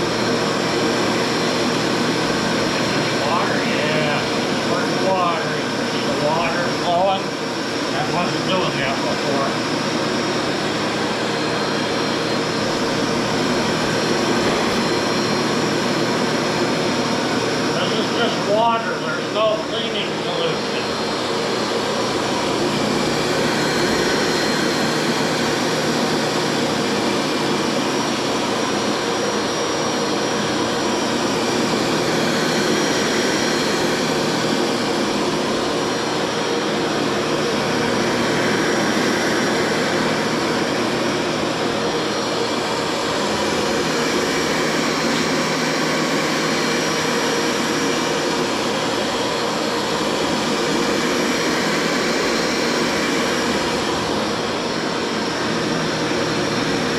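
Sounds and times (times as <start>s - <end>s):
carpet cleaner running: 0.0s - 56.9s.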